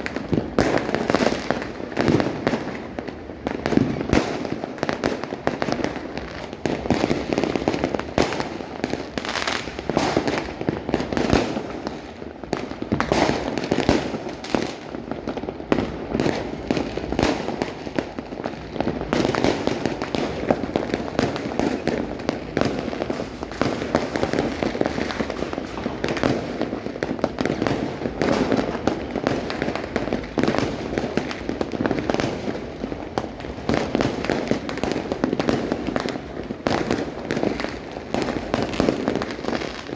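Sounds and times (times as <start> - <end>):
fireworks bangs and crackling pops: 0.0 - 39.9.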